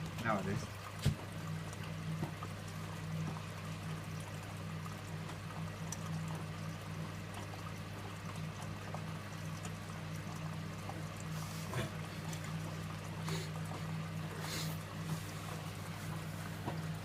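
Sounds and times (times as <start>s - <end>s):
low machine hum: 0.0s - 17.0s
water splashing in washing machine: 0.0s - 17.0s.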